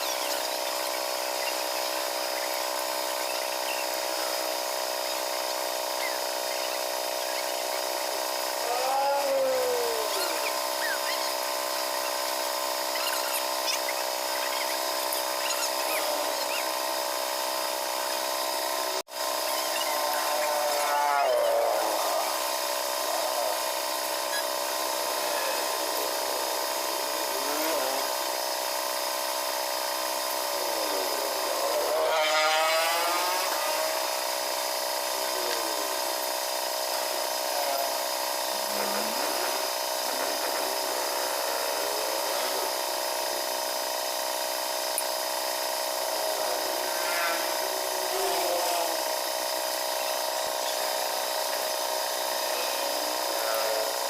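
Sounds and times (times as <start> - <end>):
motor whining: 0.0 - 54.0.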